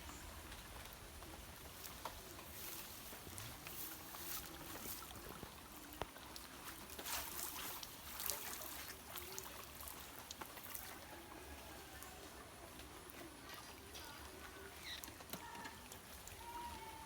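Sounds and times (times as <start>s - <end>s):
light rain: 0.0s - 17.0s
water drips and splashes: 0.0s - 17.0s.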